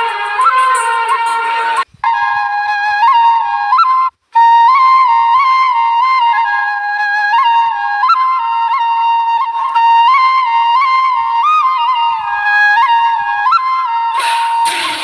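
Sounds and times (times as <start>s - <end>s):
flute melody: 0.0s - 15.0s.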